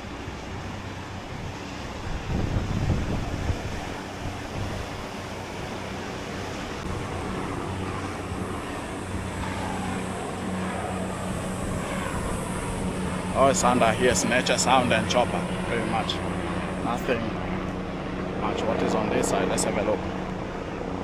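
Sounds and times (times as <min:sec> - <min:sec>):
helicopter engine and rotor: 0:00.0 - 0:21.0
ocean surf: 0:00.0 - 0:21.0
wind buffeting microphone: 0:00.0 - 0:21.0.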